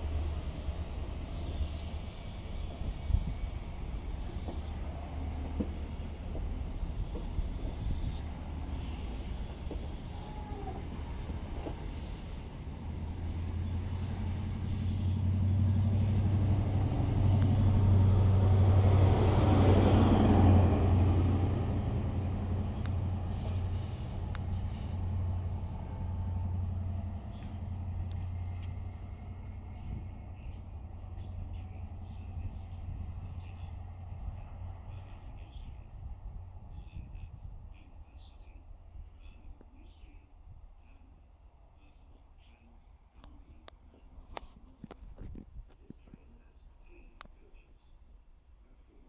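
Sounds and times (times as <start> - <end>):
train coaches running on rails: 0.0 - 40.2
diesel engine hum: 0.0 - 44.3.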